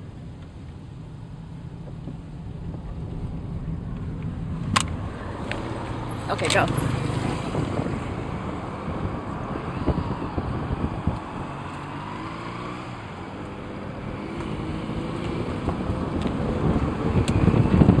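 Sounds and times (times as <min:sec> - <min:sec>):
car engine and tyre noise: 0:00.0 - 0:18.0
motorcycle riding close behind: 0:02.6 - 0:18.0.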